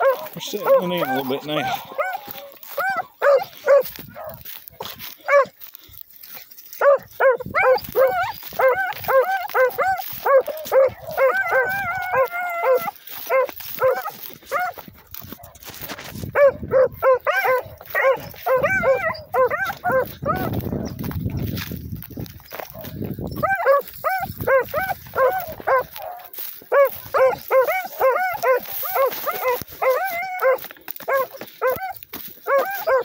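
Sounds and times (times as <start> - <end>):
hounds baying: 0.0 - 33.0.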